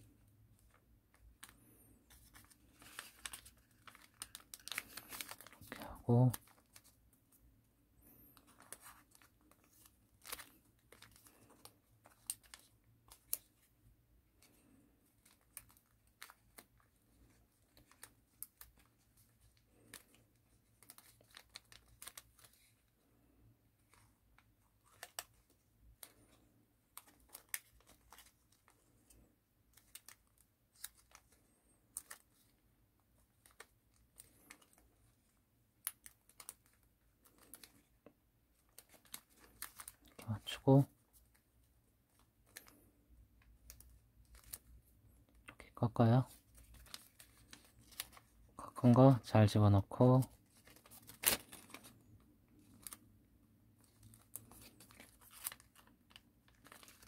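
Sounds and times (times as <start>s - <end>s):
paper being folded and creased: 0.6s - 7.0s, 8.4s - 13.7s, 14.4s - 23.0s, 23.8s - 42.8s, 43.5s - 44.8s, 46.1s - 49.1s, 50.2s - 57.0s.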